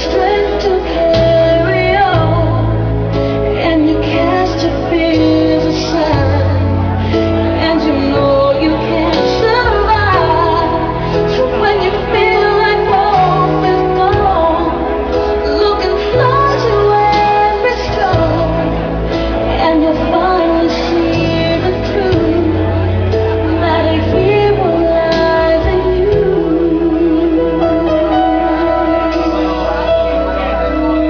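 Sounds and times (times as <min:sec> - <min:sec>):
pop song bass line: 0:00.0 - 0:31.0
woman singing: 0:00.0 - 0:31.0.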